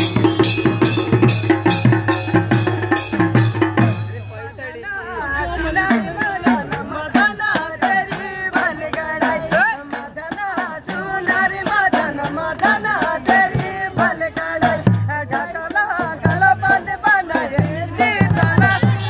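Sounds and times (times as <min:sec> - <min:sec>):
drums beating steady rhythm: 0:00.0 - 0:19.0.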